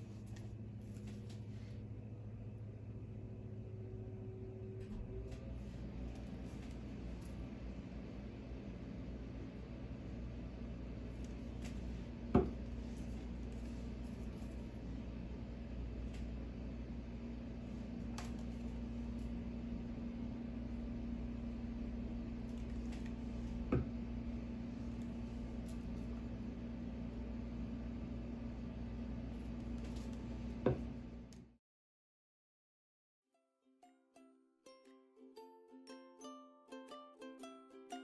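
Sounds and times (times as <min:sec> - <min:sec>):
low machine hum: 0:00.0 - 0:31.6.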